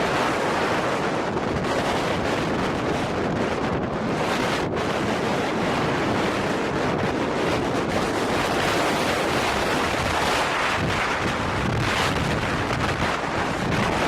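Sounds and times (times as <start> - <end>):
blizzard wind buffeting microphone: 0.0 - 14.0.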